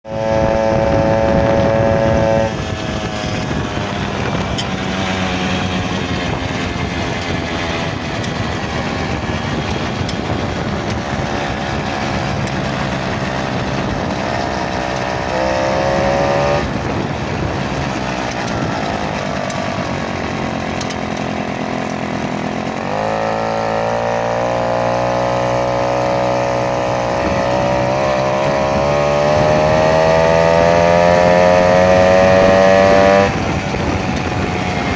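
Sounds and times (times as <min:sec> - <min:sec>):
engine running and revving: 0:00.0 - 0:34.9.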